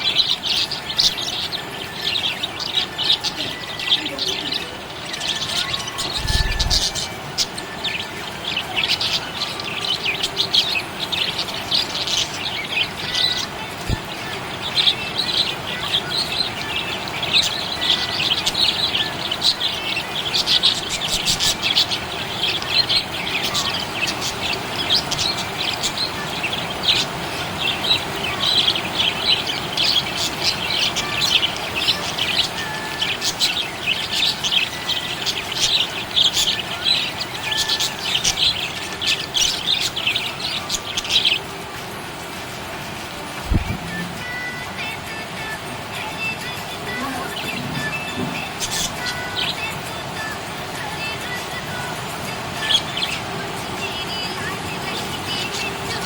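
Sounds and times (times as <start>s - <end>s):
budgerigars chirping: 0.0s - 41.8s, 46.8s - 51.8s, 52.4s - 56.0s.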